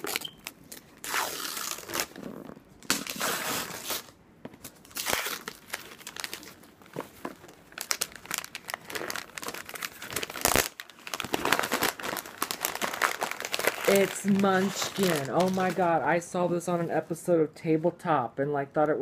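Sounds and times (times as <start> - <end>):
wrapping paper tearing and crumpling: 0.0 - 16.0.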